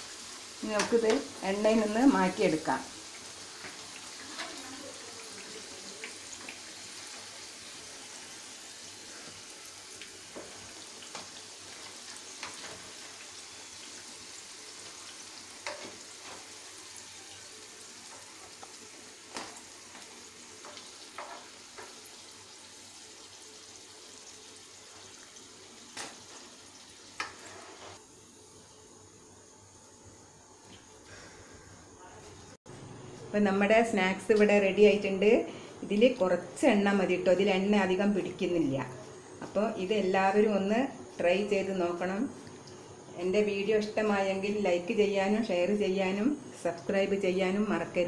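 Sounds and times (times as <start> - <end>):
hot oil sizzling: 0.0 - 48.0.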